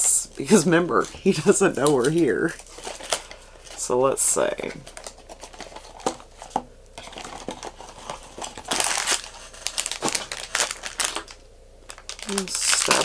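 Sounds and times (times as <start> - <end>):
plastic bag crinkling: 0.4 - 13.0.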